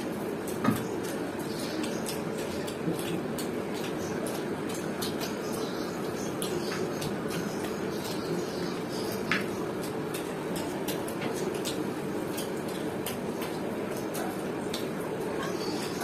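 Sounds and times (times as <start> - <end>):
chewing and smacking: 0.1 - 16.0.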